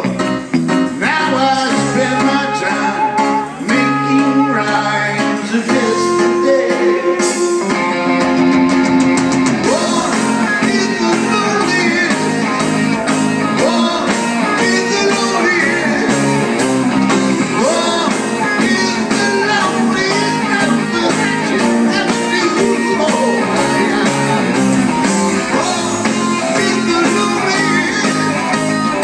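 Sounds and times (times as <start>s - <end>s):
electric guitar: 0.0s - 29.0s
steady drum beat: 5.7s - 29.0s.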